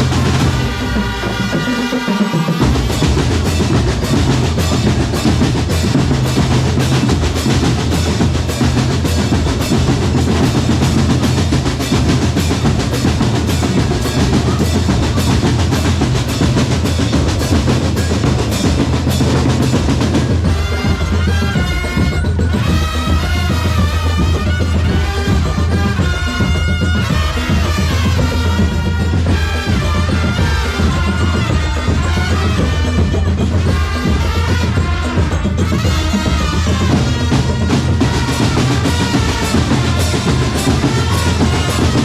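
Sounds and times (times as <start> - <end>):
marching drums playing: 0.0 - 42.0.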